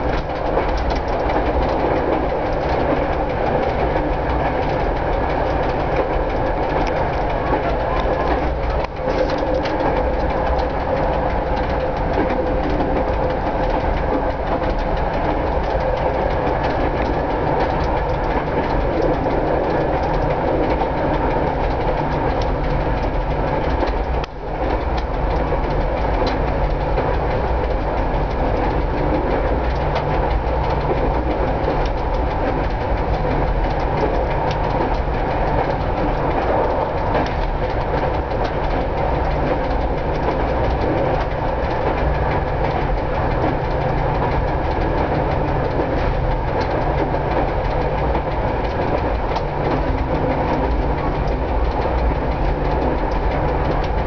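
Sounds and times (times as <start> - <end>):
diesel engine drone: 0.0 - 54.0
rail joint clicks: 0.0 - 54.0
wheels on rails: 0.0 - 54.0
speedometer ticking: 0.1 - 54.0.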